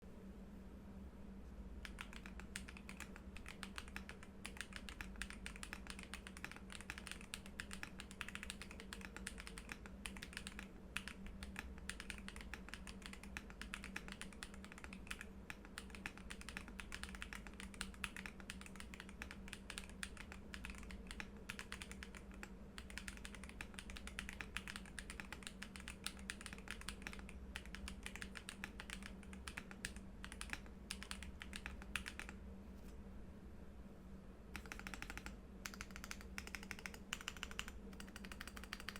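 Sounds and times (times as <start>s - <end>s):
mechanical keyboard keystroke clacks: 1.8s - 32.4s, 34.6s - 38.9s.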